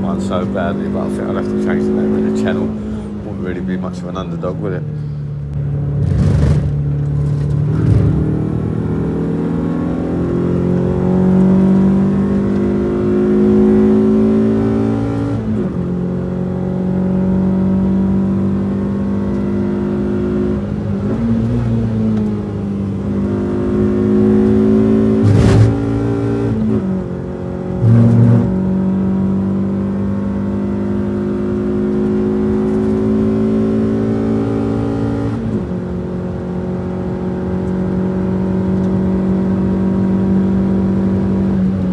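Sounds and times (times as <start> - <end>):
racing car engine accelerating: 0.0 - 41.9.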